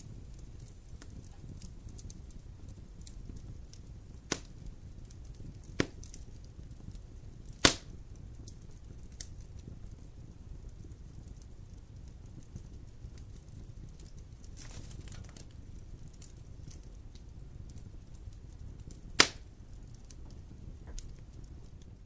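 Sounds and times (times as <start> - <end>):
low steady rumble: 0.0 - 22.0
sharp fire pops: 0.0 - 22.0
wood fire crackling: 0.0 - 22.0.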